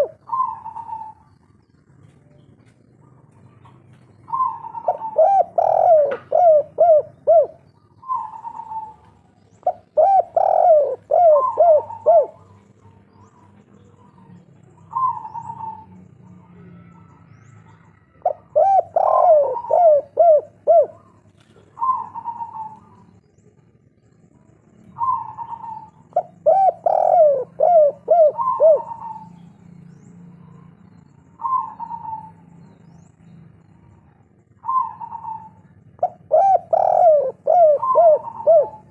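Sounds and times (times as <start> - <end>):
dove cooing: 0.0 - 23.2, 24.8 - 29.5, 30.7 - 32.9, 33.6 - 38.9.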